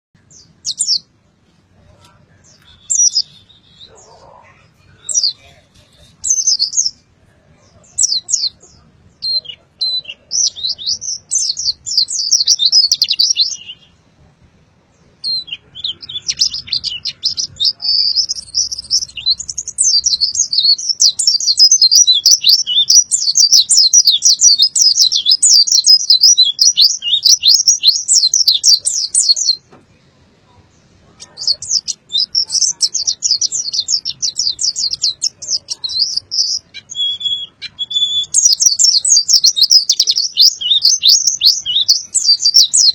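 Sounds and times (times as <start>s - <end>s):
bird chirping song: 0.2s - 42.9s.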